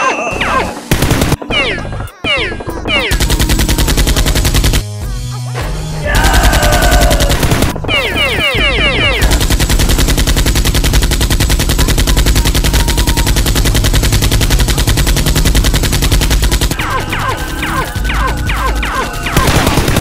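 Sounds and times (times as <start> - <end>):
machine-gun fire: 0.9 - 1.5, 3.0 - 4.9, 6.2 - 20.0.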